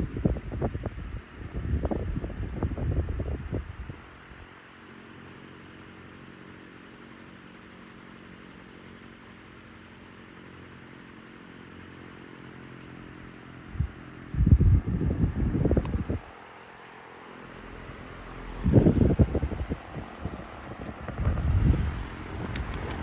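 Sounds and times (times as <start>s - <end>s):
table fan running: 0.0s - 23.0s.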